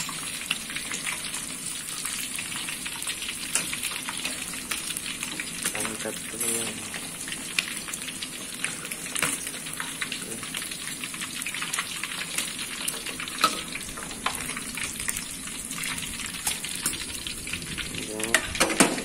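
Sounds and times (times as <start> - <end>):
fish sizzling in oil: 0.0 - 19.0
oil crackles and pops: 0.0 - 19.0.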